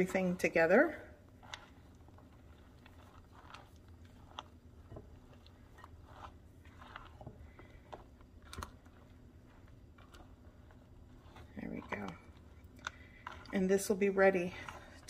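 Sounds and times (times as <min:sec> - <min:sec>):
wet mixture squelching: 0:00.0 - 0:15.0.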